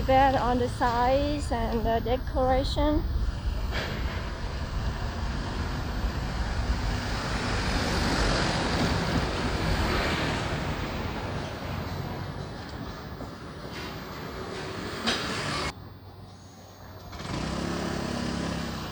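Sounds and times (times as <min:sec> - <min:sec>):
wind rushing over microphone: 0:00.0 - 0:15.7
motorbike engine and road noise: 0:00.0 - 0:18.9.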